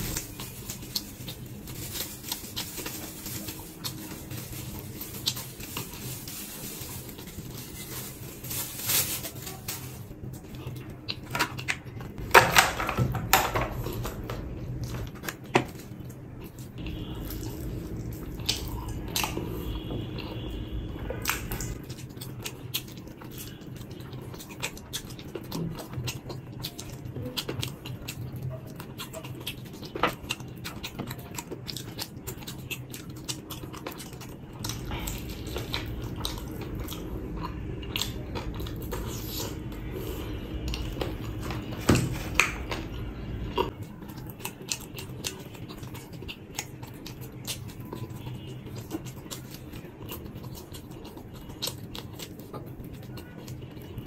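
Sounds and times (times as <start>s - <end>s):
man chewing fried chicken: 0.0s - 8.6s, 10.0s - 12.2s, 13.7s - 54.0s.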